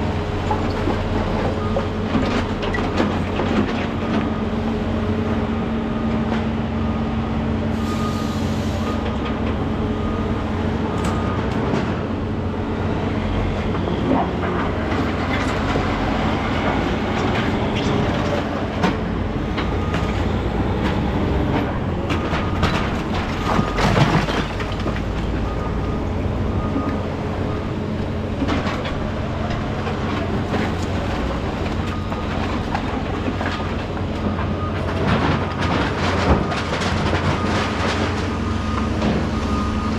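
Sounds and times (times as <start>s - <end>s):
diesel demolition equipment running: 0.0s - 39.9s.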